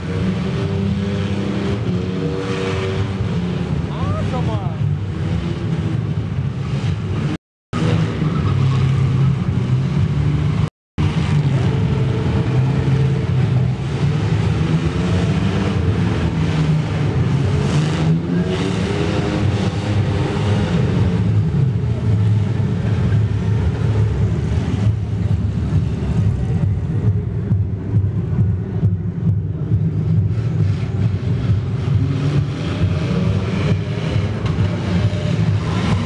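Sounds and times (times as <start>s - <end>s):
car engine revving hard: 0.0s - 27.2s, 29.6s - 36.0s.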